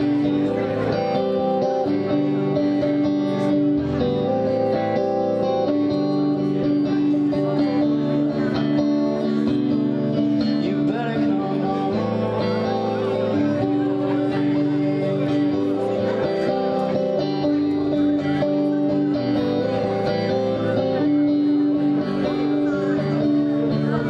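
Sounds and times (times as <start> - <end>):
indie pop song on electric guitar: 0.0 - 24.0.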